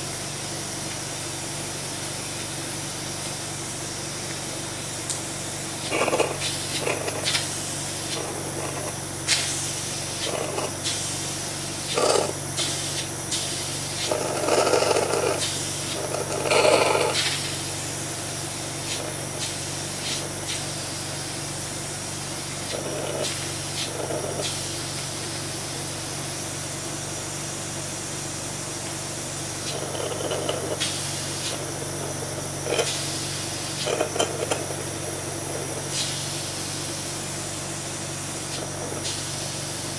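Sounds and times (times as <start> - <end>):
mechanical equipment hum: 0.0 - 39.9.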